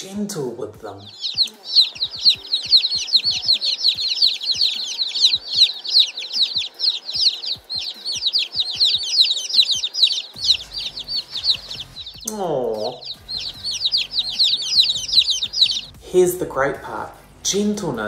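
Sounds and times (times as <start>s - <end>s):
baby chicks peeping: 0.0s - 17.6s.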